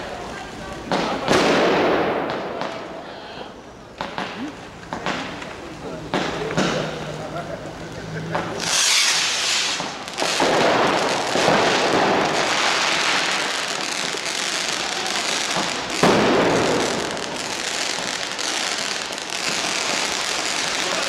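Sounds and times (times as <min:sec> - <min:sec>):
firework bangs: 0:00.0 - 0:07.2, 0:08.3 - 0:21.0
fireworks hissing and crackling: 0:00.0 - 0:21.0.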